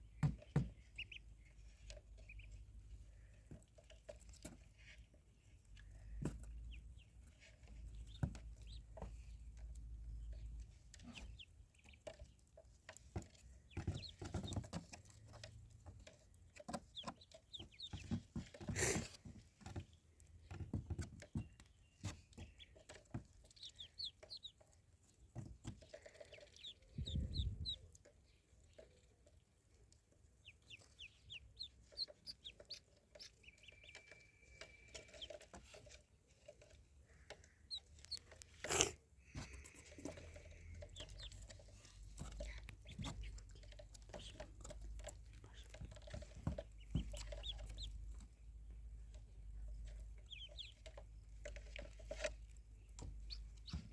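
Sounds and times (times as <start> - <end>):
ducklings peeping: 0.0 - 53.9.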